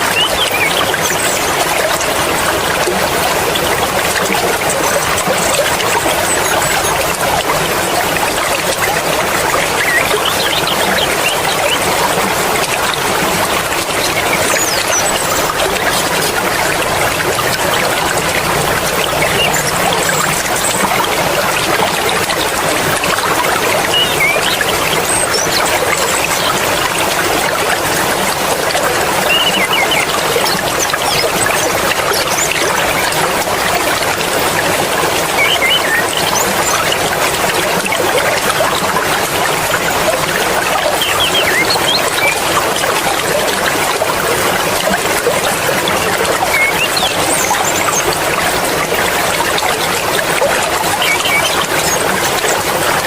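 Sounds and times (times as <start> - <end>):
stream water trickling and splashing: 0.0 - 53.0.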